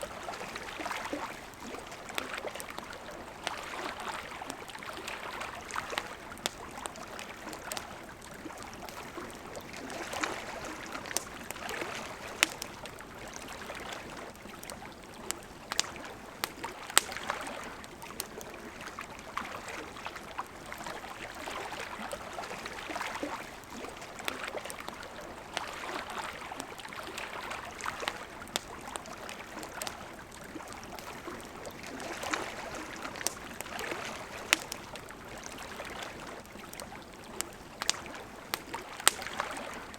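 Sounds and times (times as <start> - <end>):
wood fire crackling: 0.0 - 19.4, 20.2 - 39.9
river flowing: 0.0 - 39.9.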